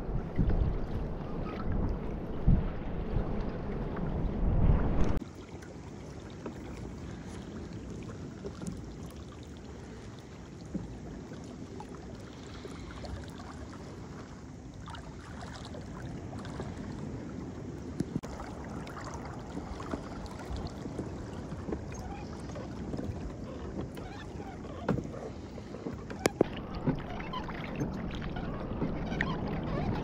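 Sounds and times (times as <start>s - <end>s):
water lapping against a hull: 0.0s - 30.0s.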